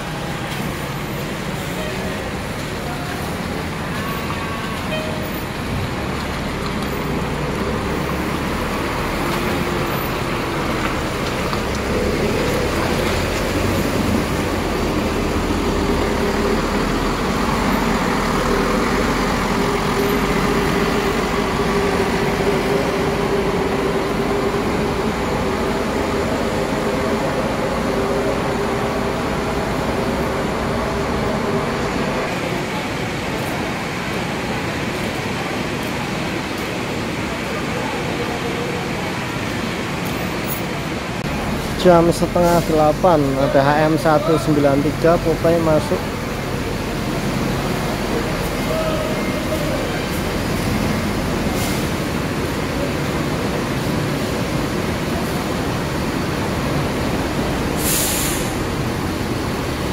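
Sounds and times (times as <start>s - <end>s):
bus engines running: 0.0s - 59.9s.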